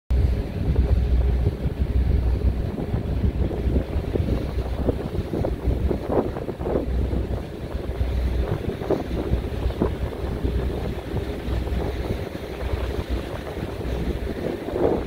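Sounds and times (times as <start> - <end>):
boat engine rumble: 0.1 - 15.0
water rushing past: 0.1 - 15.0
wind buffeting microphone: 0.1 - 15.0.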